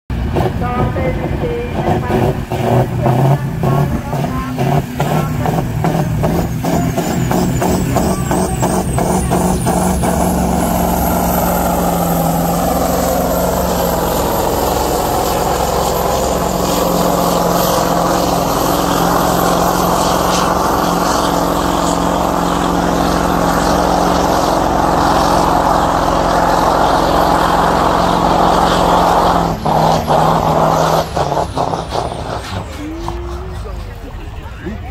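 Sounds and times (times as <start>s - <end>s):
diesel engine at full throttle: 0.0s - 34.9s.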